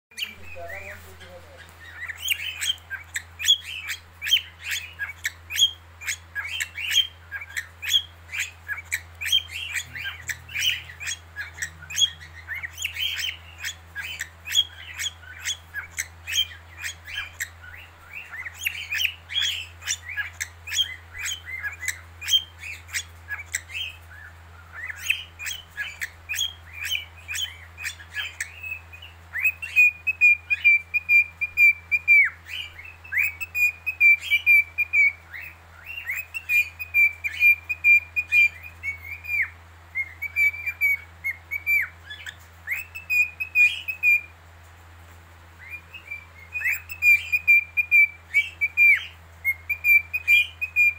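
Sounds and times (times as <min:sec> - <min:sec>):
faint low hum: 0:00.1 - 0:50.9
cockatiel chirping and warbling: 0:00.2 - 0:44.3, 0:45.6 - 0:50.9.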